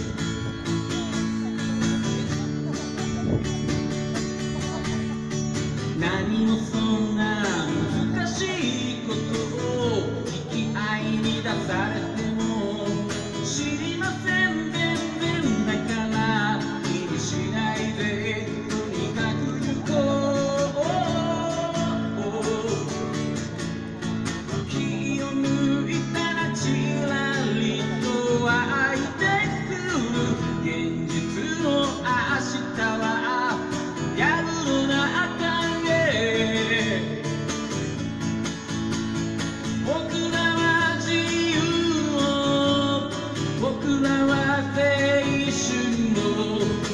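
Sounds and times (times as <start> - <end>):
man singing: 0.0 - 38.0, 39.4 - 46.9
acoustic guitar: 0.0 - 46.9.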